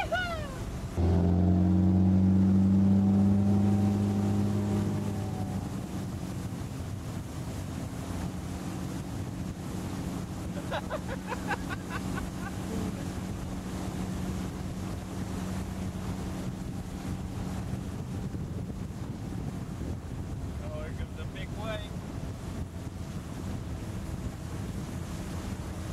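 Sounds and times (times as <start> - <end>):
motorboat engine running: 0.0 - 25.9
water rushing past hull: 0.0 - 25.9
wind buffeting microphone: 0.0 - 25.9.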